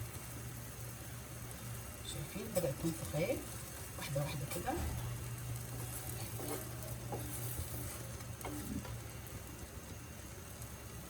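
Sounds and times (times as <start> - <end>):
constant low hum: 0.0 - 11.0
dough sizzling in oil: 0.0 - 11.0.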